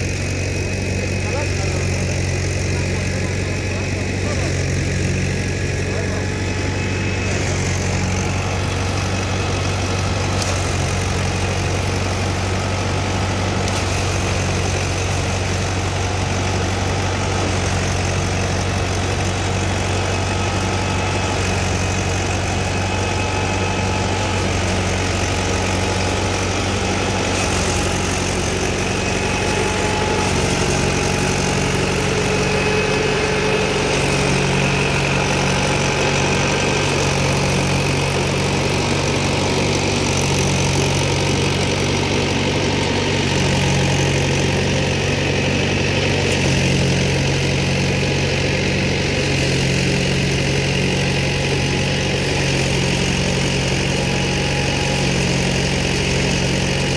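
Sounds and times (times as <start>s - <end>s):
threshing machine drone: 0.0s - 56.9s
tractor engine running under load: 0.0s - 56.9s.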